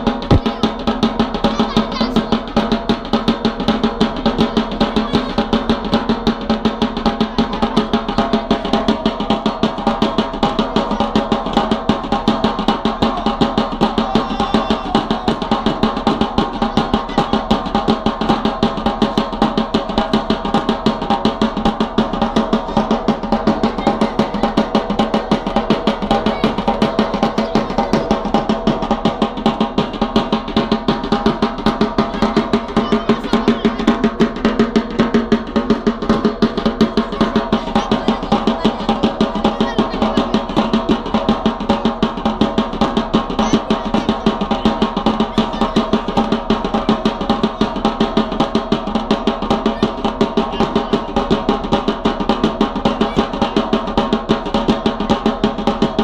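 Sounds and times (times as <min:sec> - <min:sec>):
drums beating fast rhythm: 0:00.0 - 0:56.0.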